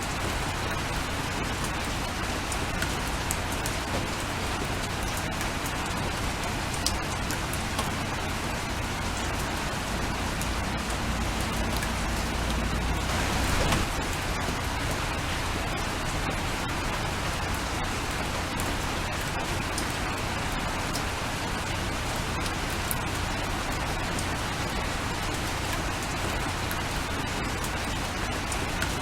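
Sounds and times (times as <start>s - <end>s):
raindrops ticking on a surface: 0.0s - 29.0s
steady rain: 0.0s - 29.0s.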